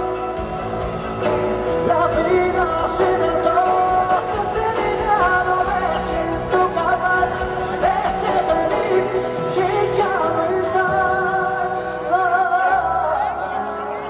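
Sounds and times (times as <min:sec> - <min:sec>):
live band accompaniment: 0:00.0 - 0:14.0
man singing pop ballad: 0:01.2 - 0:14.0.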